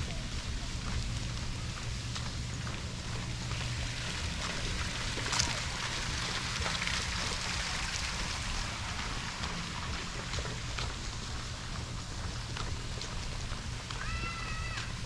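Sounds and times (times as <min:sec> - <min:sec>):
running splashing water: 0:00.0 - 0:15.0
small water drips: 0:00.0 - 0:15.0
steady low hum: 0:00.0 - 0:15.0.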